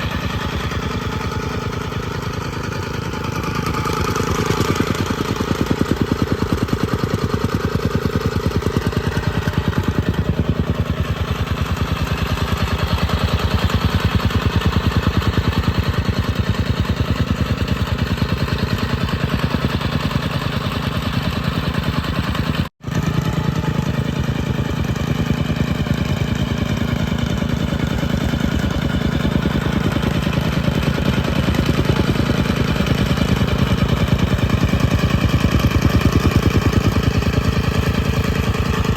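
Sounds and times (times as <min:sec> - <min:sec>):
compactor engine running: 0:00.0 - 0:38.9.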